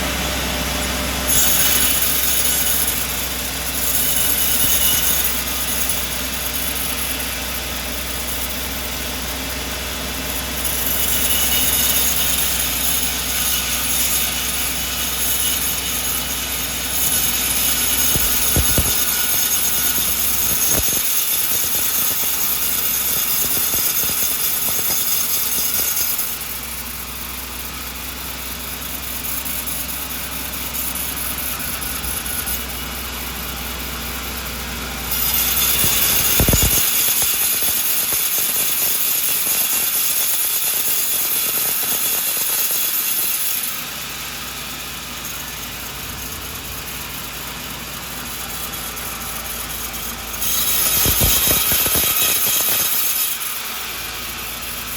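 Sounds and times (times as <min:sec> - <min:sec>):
saw blade hissing through log: 0:00.0 - 0:54.9
sawmill machine hum: 0:00.0 - 0:54.9.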